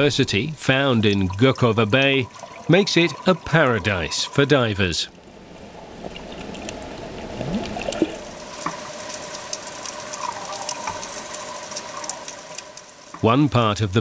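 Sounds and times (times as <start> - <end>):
underwater watery wash: 0.0 - 14.0
water gurgling: 0.0 - 14.0.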